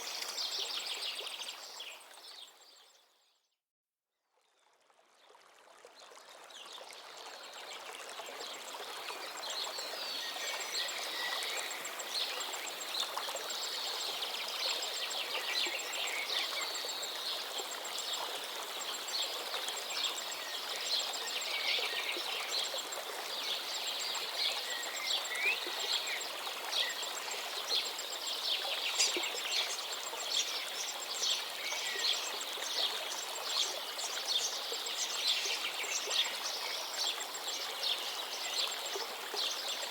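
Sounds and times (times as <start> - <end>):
flowing water rushing: 5.4 - 39.9.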